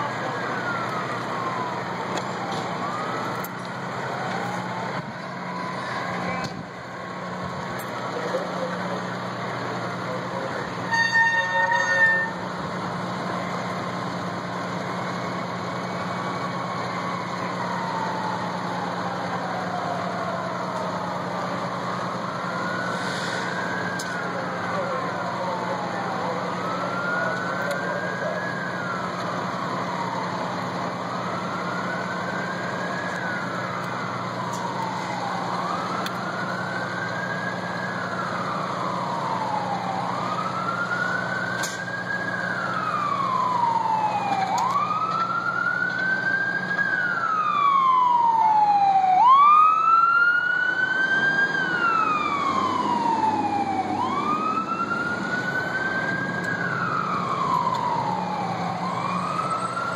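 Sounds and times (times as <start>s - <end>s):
higher siren wail: 0.0s - 9.3s, 9.9s - 12.6s, 14.3s - 59.9s
fire truck siren wailing: 0.0s - 59.9s.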